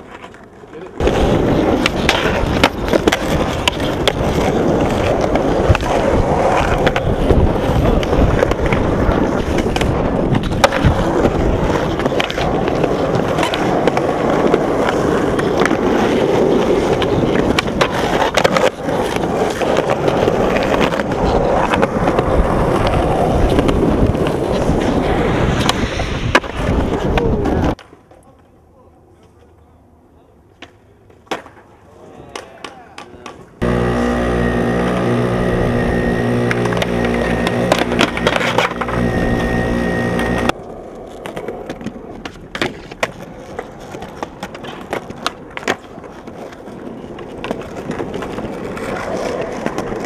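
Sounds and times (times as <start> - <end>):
skateboard trucks grinding ledge: 0.0 - 27.8, 33.6 - 50.0
skateboards clacking: 0.0 - 50.0
skateboards rolling on concrete: 0.0 - 50.0.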